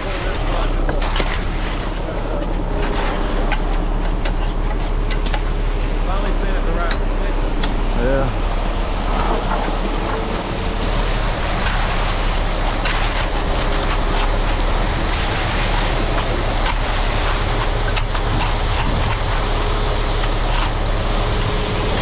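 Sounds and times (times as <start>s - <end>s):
concrete truck running: 0.0s - 22.0s.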